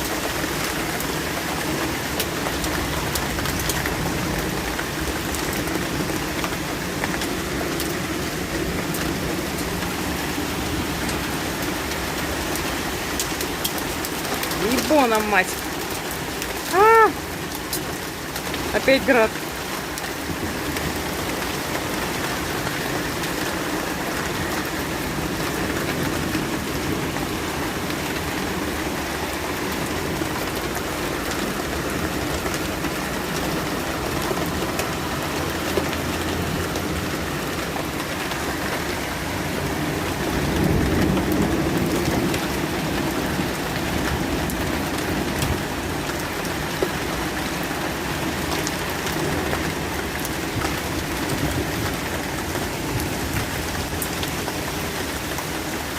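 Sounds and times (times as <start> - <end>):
heavy rain and hail hissing: 0.0 - 55.9.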